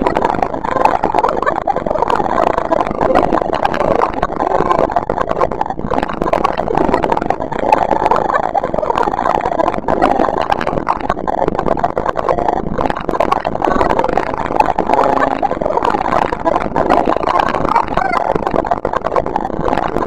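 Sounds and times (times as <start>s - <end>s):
dense machine-like noise: 0.0s - 20.0s.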